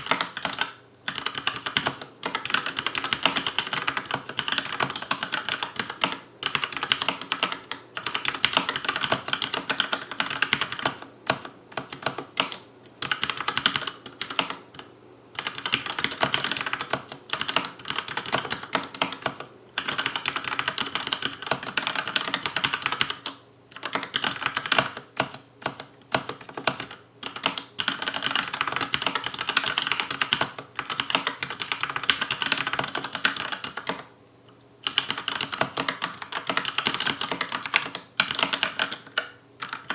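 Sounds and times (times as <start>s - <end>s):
fast mechanical keyboard typing: 0.0s - 34.1s, 34.8s - 39.9s.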